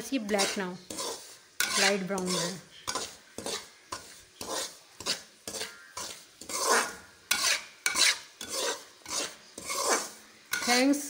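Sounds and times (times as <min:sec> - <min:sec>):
utensil scraping metal pan: 0:00.0 - 0:11.0.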